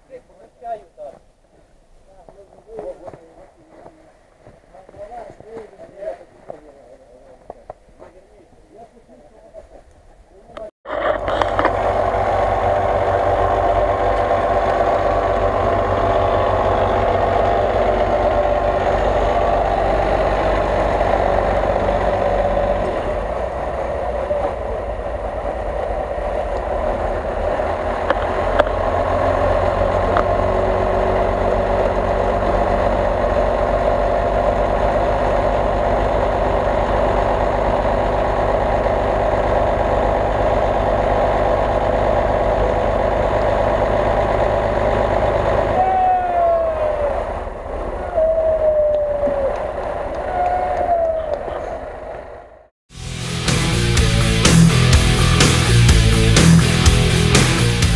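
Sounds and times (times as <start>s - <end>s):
vehicle engine idling: 0.0s - 57.9s.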